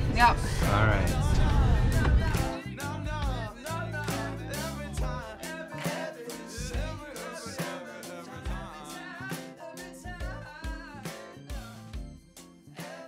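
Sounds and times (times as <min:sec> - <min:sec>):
steady drum beat: 0:00.0 - 0:12.2
bass: 0:00.0 - 0:12.8
guitar: 0:00.0 - 0:13.0
song with sung melody: 0:00.0 - 0:13.0.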